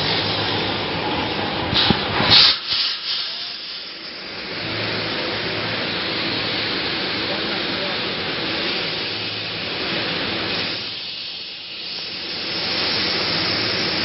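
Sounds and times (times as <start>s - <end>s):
welding machine hissing: 0.0s - 14.0s.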